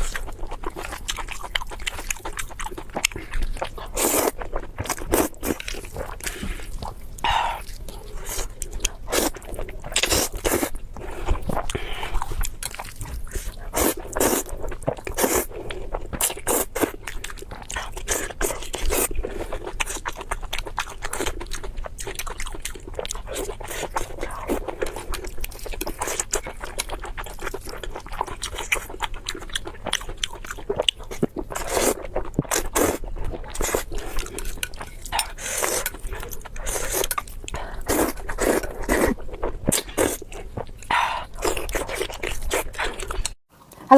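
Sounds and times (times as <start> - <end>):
crunchy biting and chewing: 0.0 - 43.4.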